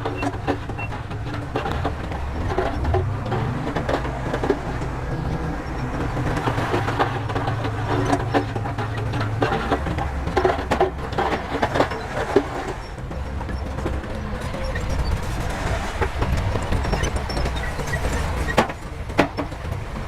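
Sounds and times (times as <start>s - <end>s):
heavy diesel machinery running: 0.0s - 20.0s
rock and metal clatter: 0.0s - 20.0s.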